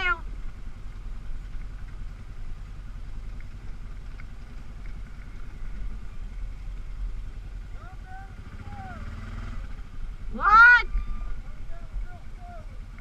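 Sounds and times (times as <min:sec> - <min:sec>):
atv engine idling at low revs: 0:00.0 - 0:13.0.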